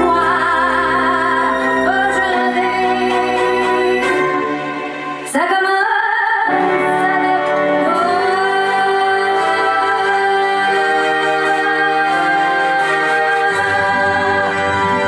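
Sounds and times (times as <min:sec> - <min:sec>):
woman singing slow song: 0:00.0 - 0:04.4, 0:05.2 - 0:15.0
musical accompaniment: 0:00.0 - 0:15.0.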